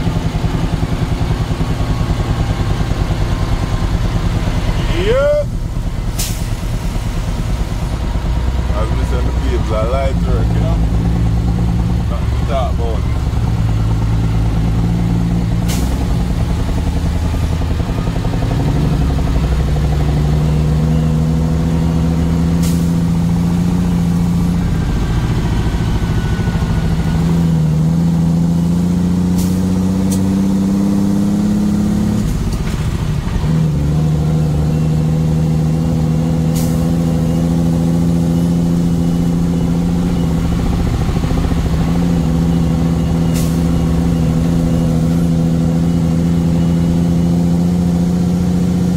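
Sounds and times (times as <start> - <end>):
vehicle engine accelerating: 0.0 - 48.9.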